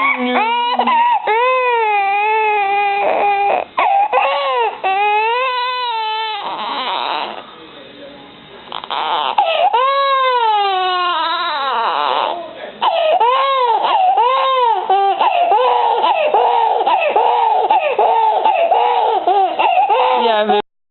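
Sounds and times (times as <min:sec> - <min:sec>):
baby crying: 0:00.0 - 0:07.4, 0:08.7 - 0:20.6.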